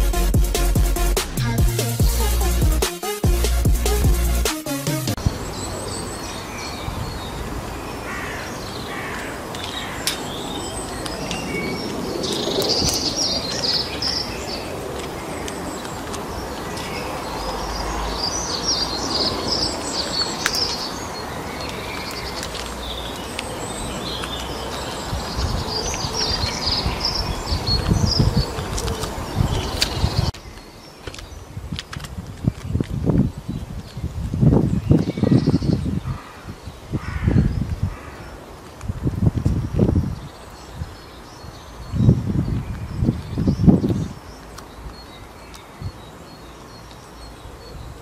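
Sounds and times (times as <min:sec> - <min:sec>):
small birds twittering: 0:05.2 - 0:48.0.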